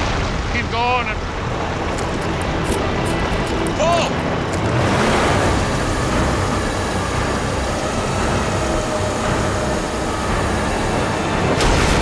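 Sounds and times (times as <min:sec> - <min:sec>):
heavy diesel machinery rumbling: 0:01.5 - 0:12.0.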